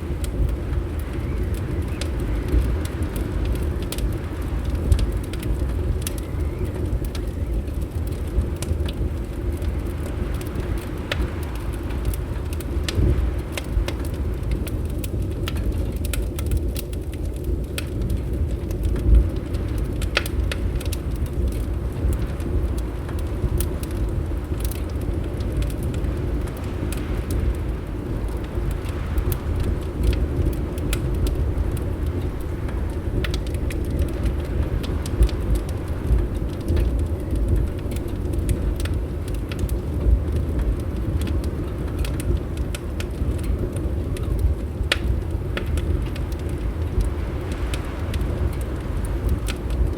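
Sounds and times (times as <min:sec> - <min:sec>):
low rumble of wind: 0:00.0 - 0:49.9
wood fire crackling and popping: 0:00.0 - 0:49.9.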